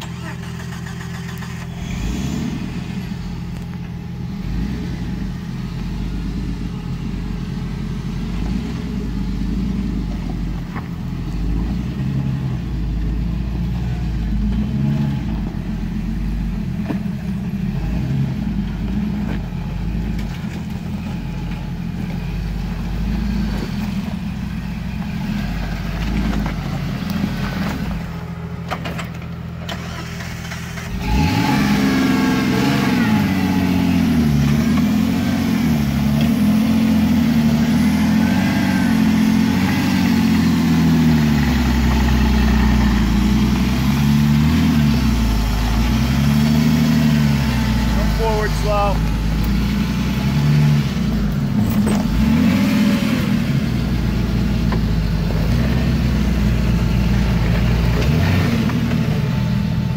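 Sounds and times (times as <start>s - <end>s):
pickup engine at low revs: 0.0s - 59.9s.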